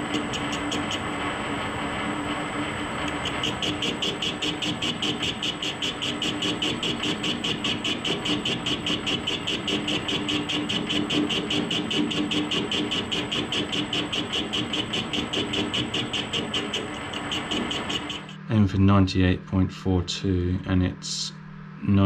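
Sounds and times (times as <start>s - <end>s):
rhythmic pulsing of cutting tool: 0.0s - 18.5s
lathe motor and gearing hum: 0.0s - 22.0s.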